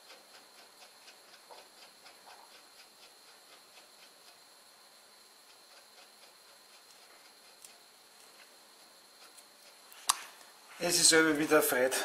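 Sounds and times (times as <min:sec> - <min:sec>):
faint ticking: 0:00.0 - 0:11.6.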